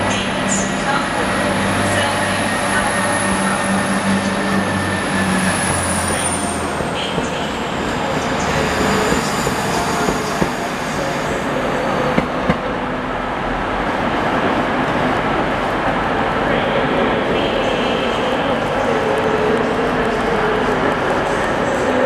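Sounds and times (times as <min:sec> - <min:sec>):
diesel train passing: 0:00.0 - 0:22.0.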